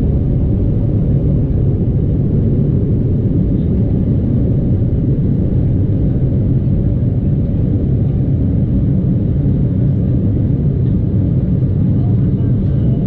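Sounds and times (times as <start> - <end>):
airplane cabin rumble at takeoff: 0.0 - 13.0.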